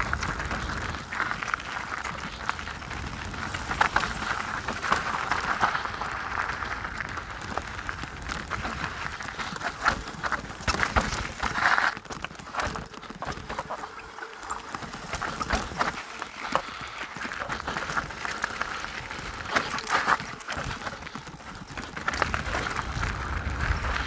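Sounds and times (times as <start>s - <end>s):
mountain bike rattling over rocks: 0.0s - 24.0s.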